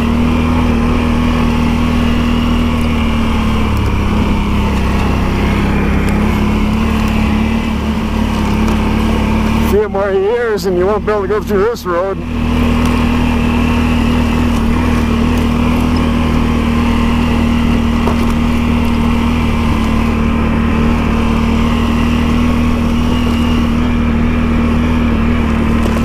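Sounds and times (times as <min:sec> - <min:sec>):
atv engine running steadily: 0:00.0 - 0:26.0.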